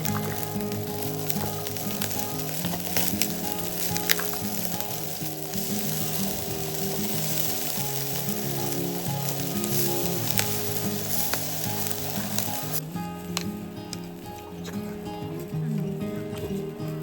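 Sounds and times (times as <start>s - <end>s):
food sizzling in a pan: 0.0s - 14.6s
background music: 0.0s - 17.0s.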